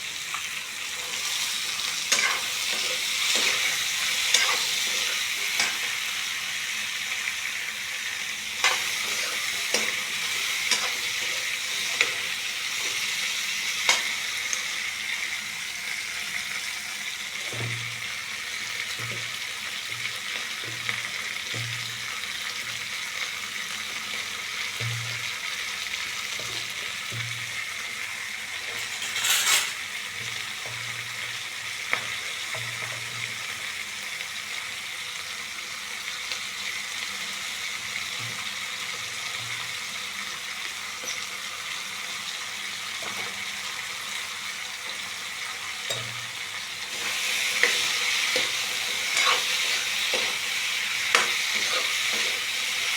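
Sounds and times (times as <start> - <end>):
food sizzling in a pan: 0.0 - 52.9.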